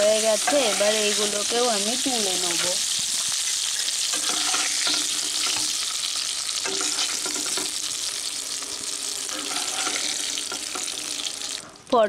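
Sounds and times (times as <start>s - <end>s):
spatula scraping a pan: 0.0s - 1.8s, 2.4s - 11.6s
vegetables sizzling in oil: 0.0s - 12.0s.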